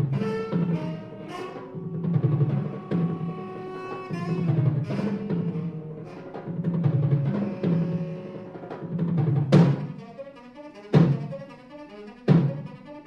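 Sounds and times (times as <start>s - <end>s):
tenor saxophone: 0.0s - 13.0s.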